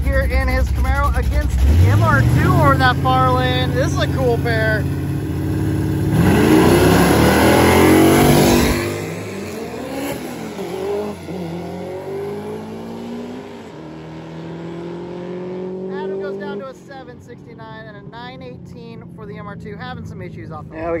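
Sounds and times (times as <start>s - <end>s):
drag cars accelerating: 0.0s - 20.6s.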